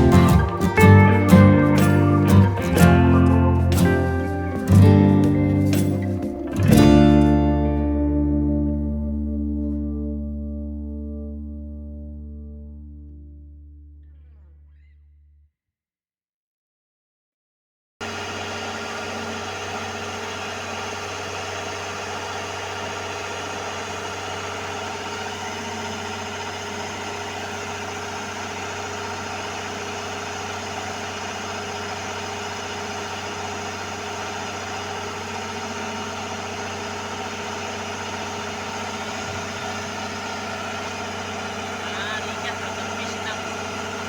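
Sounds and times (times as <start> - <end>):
harvester engine droning: 0.0 - 14.5, 18.0 - 44.0.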